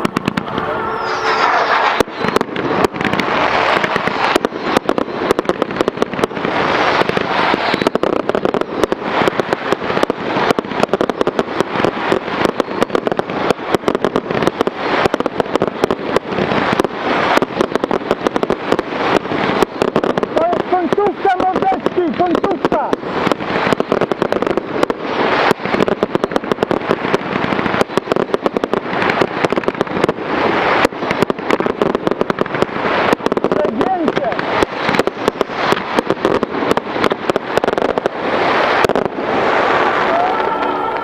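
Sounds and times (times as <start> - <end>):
fireworks bursting: 0.0 - 41.0
fireworks crackling: 0.0 - 41.0.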